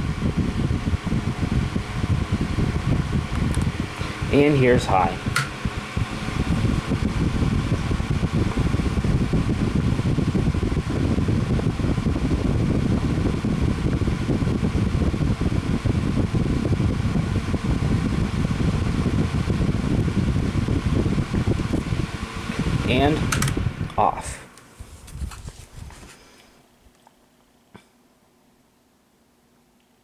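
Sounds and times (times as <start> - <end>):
fan blowing air: 0.0 - 27.9
faint motor hum: 0.0 - 30.0.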